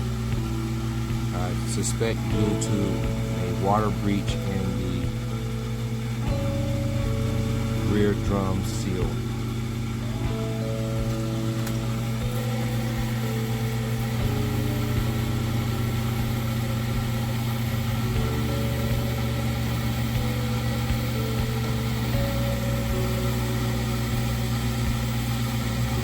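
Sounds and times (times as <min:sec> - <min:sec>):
high motor whine: 0:00.0 - 0:26.0
washing machine drum spinning hum: 0:00.0 - 0:26.0.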